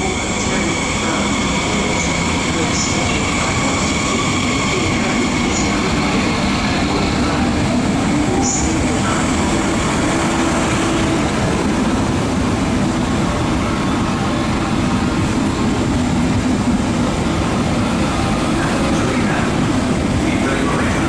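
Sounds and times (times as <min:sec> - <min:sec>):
train running slowly past: 0:00.0 - 0:21.0.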